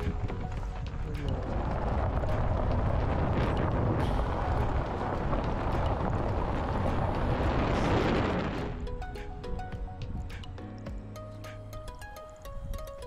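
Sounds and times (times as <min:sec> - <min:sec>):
wind buffeting microphone: 0:00.0 - 0:10.6
soft background music: 0:00.0 - 0:13.0.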